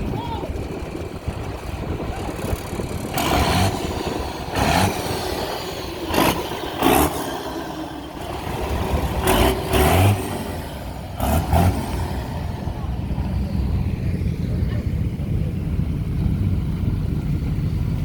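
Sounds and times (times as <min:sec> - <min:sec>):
low traffic rumble: 0:00.0 - 0:18.0
vehicles accelerating past: 0:01.0 - 0:18.0.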